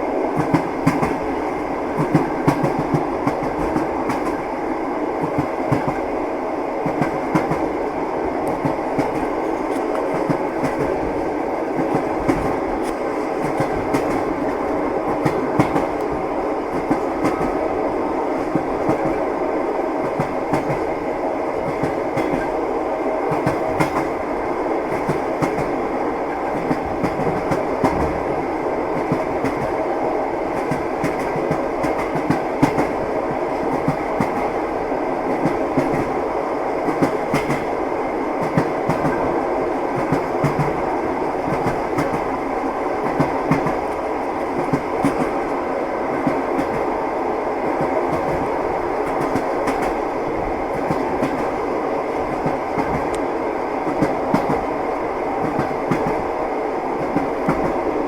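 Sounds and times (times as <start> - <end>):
train wheels rolling rumble: 0.0 - 58.0.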